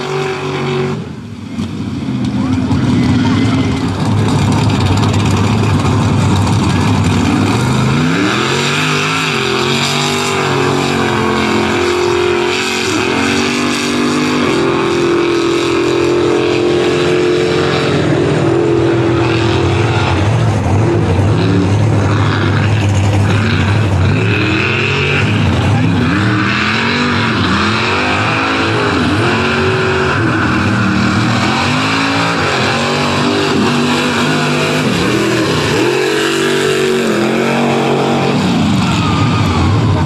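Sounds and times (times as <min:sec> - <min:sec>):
truck engine revving hard: 0:00.0 - 0:40.0.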